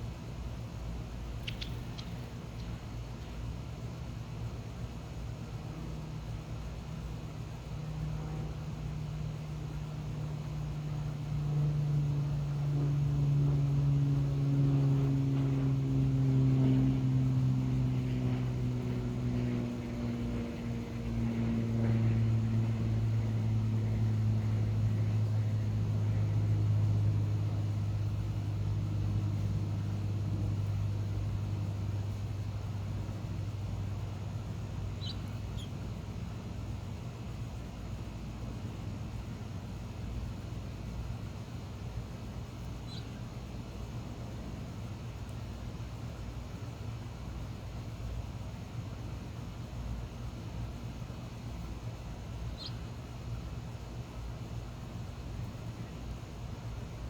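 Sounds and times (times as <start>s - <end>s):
passing engine low hum: 0.0s - 57.0s.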